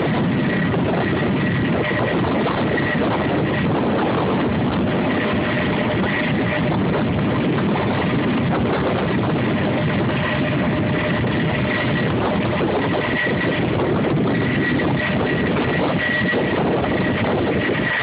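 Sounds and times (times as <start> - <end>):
helicopter running: 0.0 - 18.0
high steady whine: 0.0 - 18.0.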